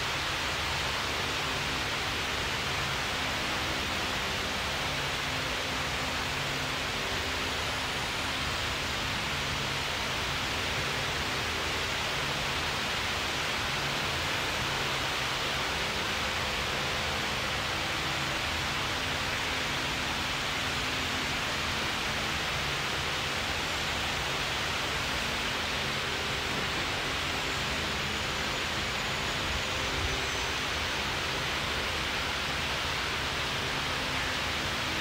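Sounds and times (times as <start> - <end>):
fan rushing air: 0.0 - 35.0.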